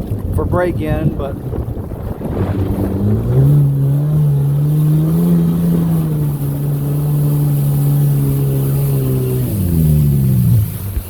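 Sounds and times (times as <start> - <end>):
two-stroke watercraft engine running: 0.0 - 11.0.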